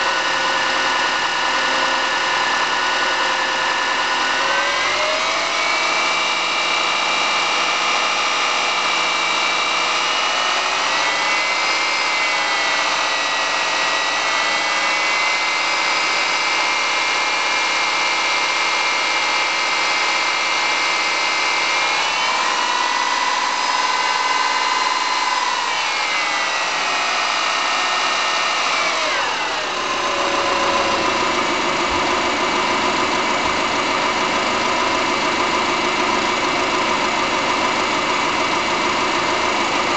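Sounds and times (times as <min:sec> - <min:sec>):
car engine running: 0:00.0 - 0:16.3, 0:21.7 - 0:39.9.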